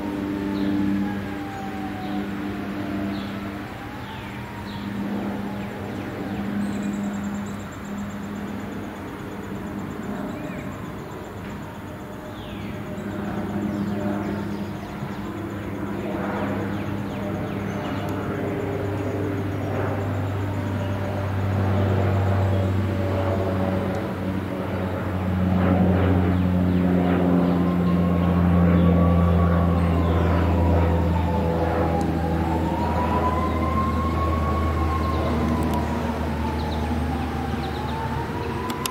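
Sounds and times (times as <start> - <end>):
propeller plane droning overhead: 0.0 - 38.9.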